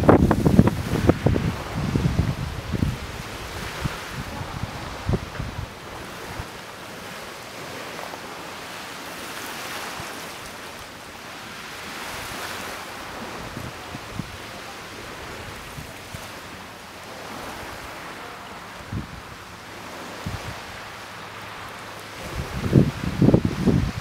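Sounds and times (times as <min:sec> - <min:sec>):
choppy sea: 0:00.0 - 0:24.0
wind gusting across microphone: 0:00.0 - 0:24.0.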